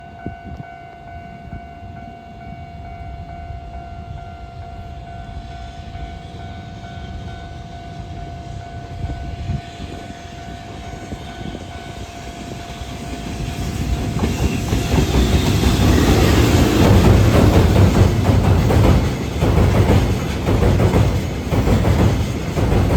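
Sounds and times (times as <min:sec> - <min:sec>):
freight train rumble: 0:00.0 - 0:22.9.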